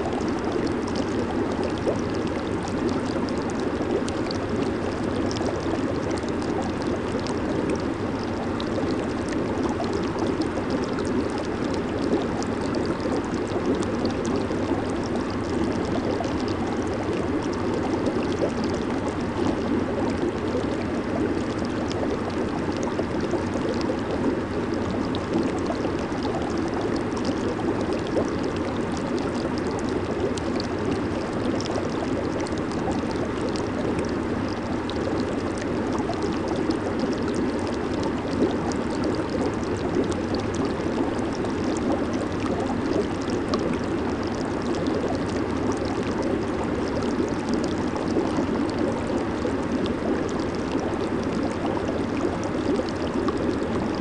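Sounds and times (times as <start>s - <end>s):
hot tub water bubbling: 0.0s - 54.0s.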